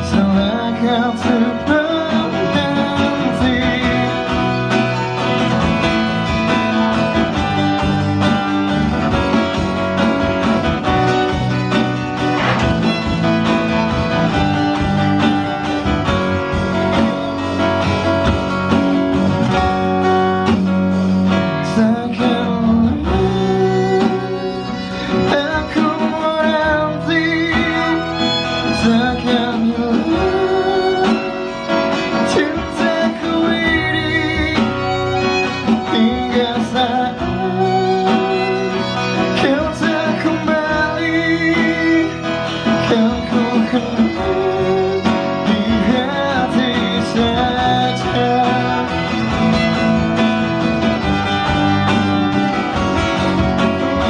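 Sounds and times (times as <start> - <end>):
violin melody: 0.0 - 21.4, 22.2 - 54.0
electric bass guitar: 0.0 - 54.0
strummed acoustic guitar: 0.0 - 54.0.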